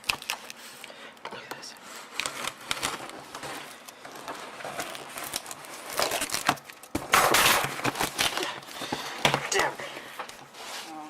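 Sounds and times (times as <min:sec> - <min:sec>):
packaging rustling and crinkling: 0:00.0 - 0:01.0, 0:01.9 - 0:11.0.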